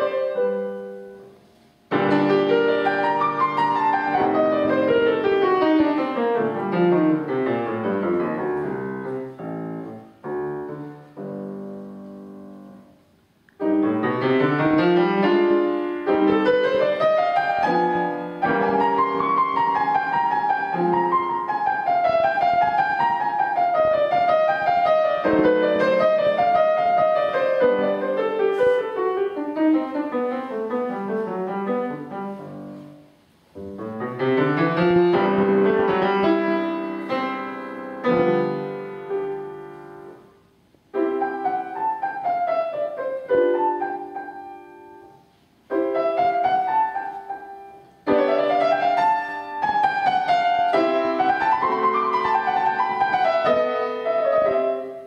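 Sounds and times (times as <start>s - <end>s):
solo grand piano piece: 0.0s - 55.0s.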